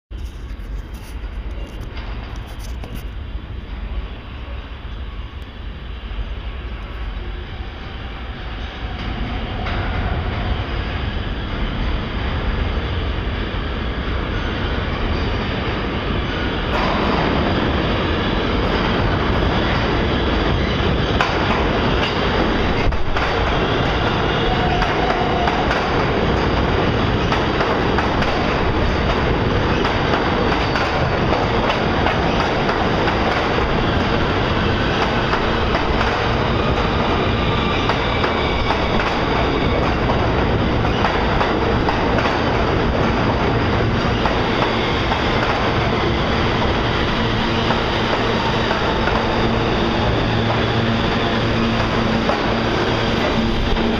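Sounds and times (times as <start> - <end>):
subway train rumbling: 0.1 - 53.9.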